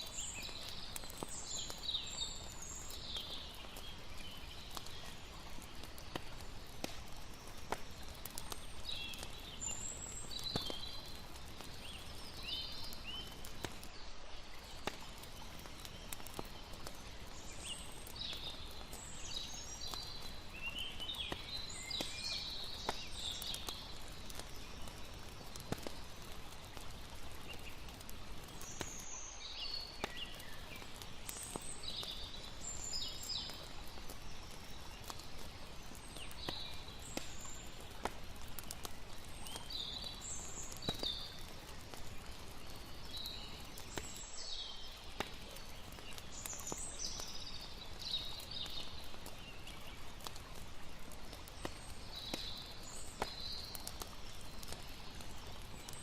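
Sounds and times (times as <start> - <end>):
campfire crackles: 0.0 - 56.0.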